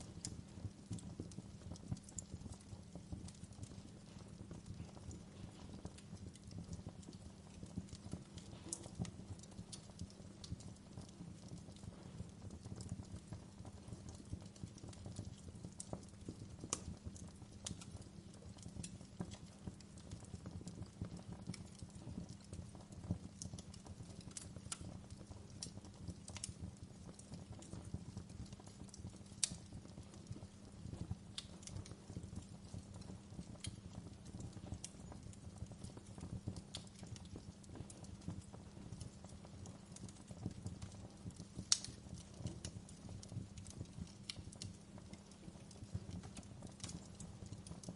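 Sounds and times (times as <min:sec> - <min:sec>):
fire crackling and popping: 0:00.0 - 0:47.9
low rumble of flame: 0:00.0 - 0:47.9.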